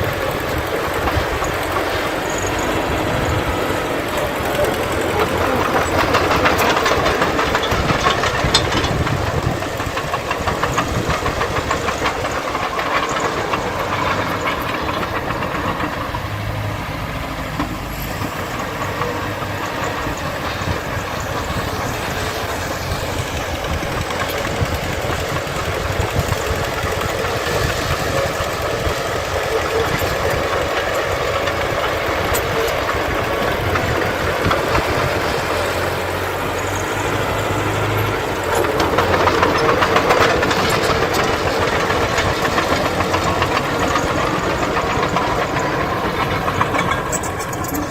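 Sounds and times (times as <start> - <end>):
diesel engine knocking roughly: 0.0 - 47.9.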